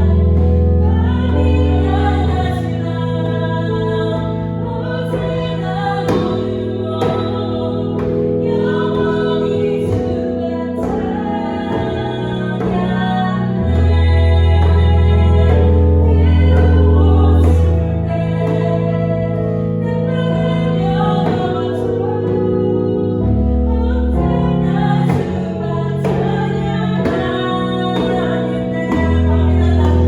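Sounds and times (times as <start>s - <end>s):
person singing worship song: 0.0s - 30.0s
piano chords: 0.0s - 30.0s.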